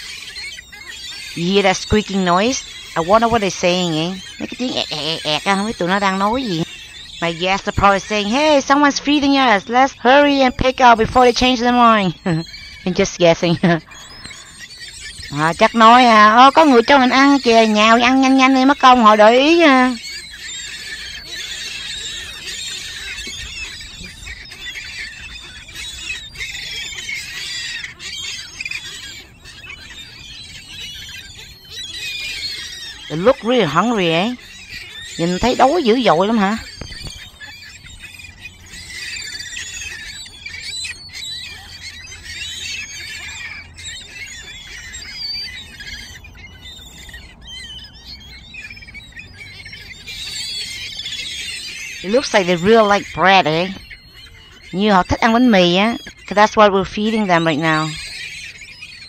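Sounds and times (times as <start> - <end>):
seagulls squeaking and calling: 0.0 - 59.0.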